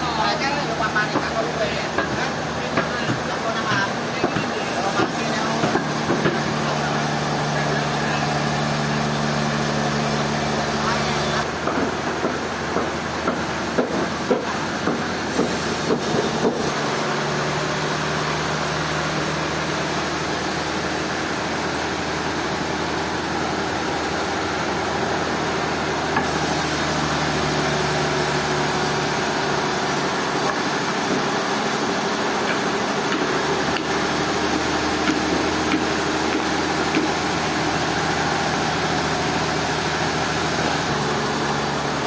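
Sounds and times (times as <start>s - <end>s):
sawmill machinery humming: 0.0s - 42.0s.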